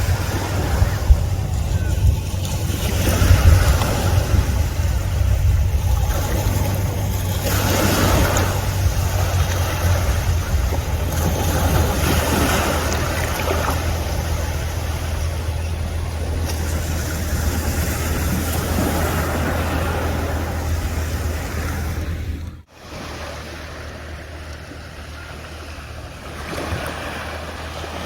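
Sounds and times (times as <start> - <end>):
wind on microphone: 0.0 - 22.7
sea surf washing in: 0.0 - 28.0.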